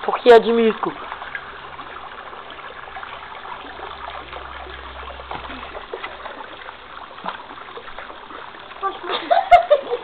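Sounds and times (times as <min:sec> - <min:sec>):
hose water running into pool: 0:00.0 - 0:10.0.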